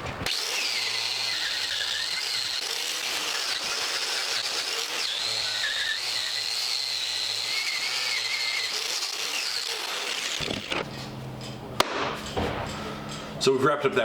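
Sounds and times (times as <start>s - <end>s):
power tool whining: 0.2s - 11.6s.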